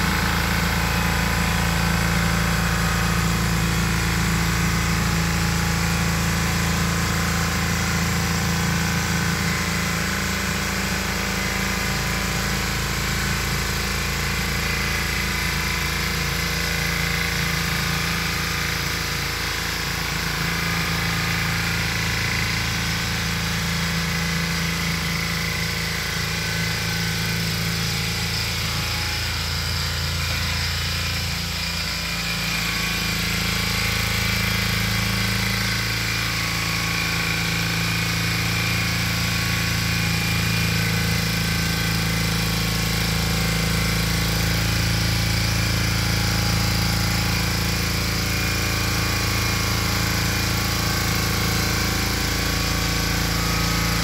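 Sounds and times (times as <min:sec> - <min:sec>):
tiller engine running: 0:00.0 - 0:54.0.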